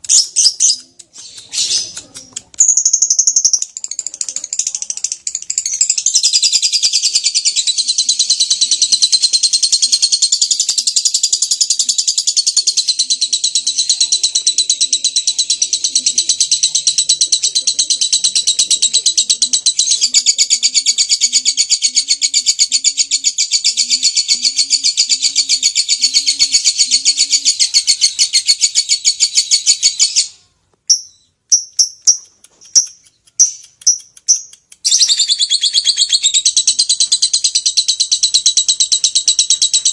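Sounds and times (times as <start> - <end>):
lovebird fast chattering trill: 0.0 - 30.3, 30.9 - 39.9.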